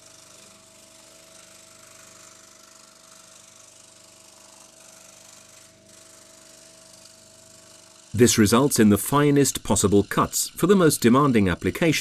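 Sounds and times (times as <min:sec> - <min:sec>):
scroll saw running: 0:00.0 - 0:12.0.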